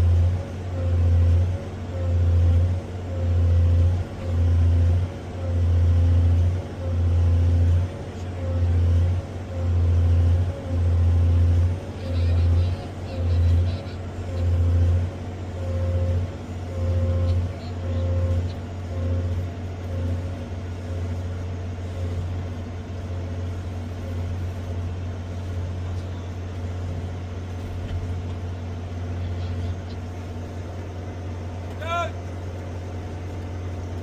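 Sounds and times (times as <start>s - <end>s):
excavator engine and hydraulics drone: 0.0s - 34.0s.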